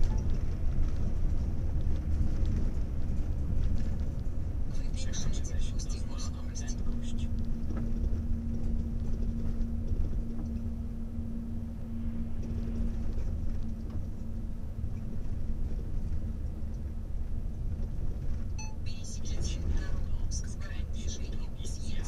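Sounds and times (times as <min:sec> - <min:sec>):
car driving on road: 0:00.0 - 0:22.0
steady hum: 0:00.1 - 0:22.0.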